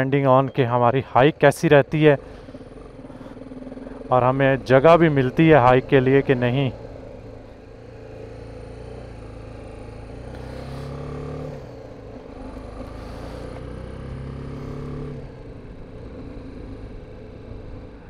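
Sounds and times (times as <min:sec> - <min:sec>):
motorcycle engine running: 0:01.0 - 0:18.0.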